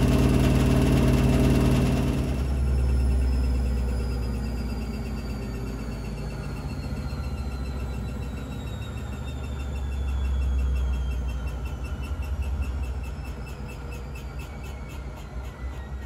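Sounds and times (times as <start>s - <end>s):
low hum: 0.0s - 16.0s
washing machine motor whining down: 0.0s - 16.0s.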